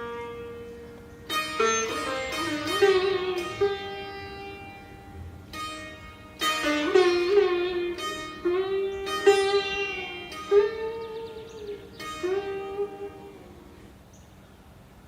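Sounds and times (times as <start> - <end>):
plucked string instrument: 0.0 - 14.0.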